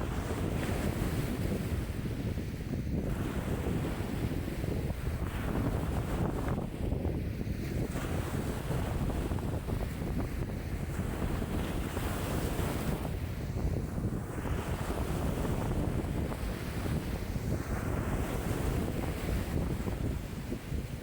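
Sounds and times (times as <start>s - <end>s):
lake waves washing on shore: 0.0s - 21.0s
wind rumbling on microphone: 0.0s - 21.0s.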